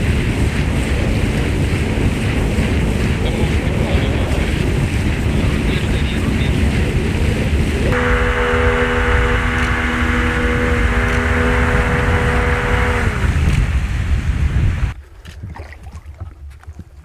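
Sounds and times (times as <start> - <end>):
motorboat engine running: 0.0 - 17.0
wind and water noise: 0.0 - 17.0.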